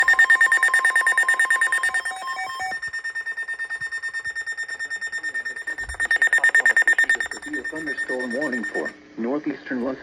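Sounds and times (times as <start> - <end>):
lower alarm tone: 0.0 - 9.0
rapid high-pitched alarm beeping: 0.0 - 9.0.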